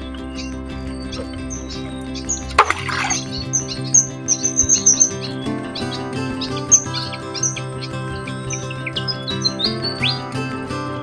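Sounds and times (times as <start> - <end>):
music of steady held tones: 0.0 - 11.0.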